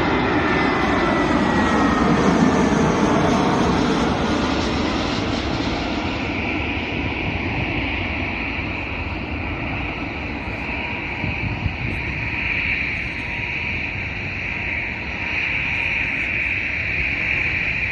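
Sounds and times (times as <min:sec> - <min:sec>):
jet engines rumbling and whining: 0:00.0 - 0:17.9.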